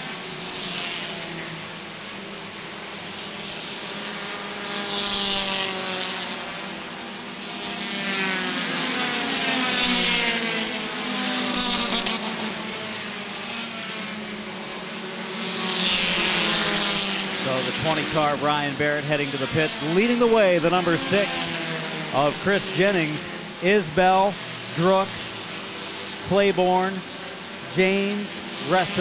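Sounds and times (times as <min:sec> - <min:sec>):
race cars passing: 0:00.0 - 0:29.0.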